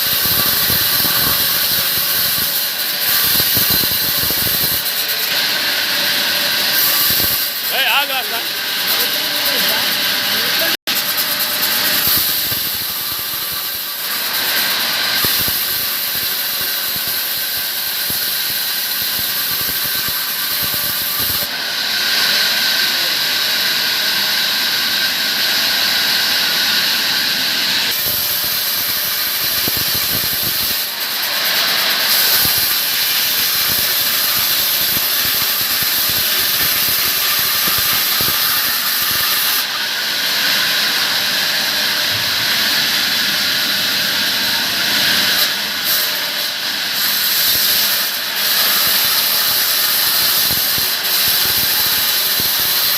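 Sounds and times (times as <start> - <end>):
power saw cutting timber: 0.0 - 52.9.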